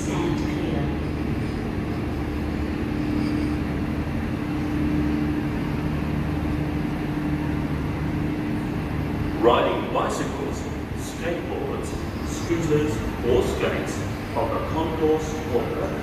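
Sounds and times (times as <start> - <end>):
steady hum: 0.0 - 16.0
train rumbling past: 0.0 - 16.0.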